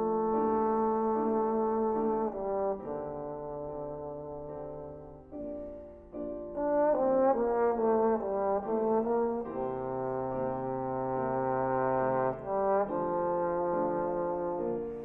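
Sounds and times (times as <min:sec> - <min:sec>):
trombone melody: 0:00.0 - 0:05.5, 0:06.5 - 0:15.0.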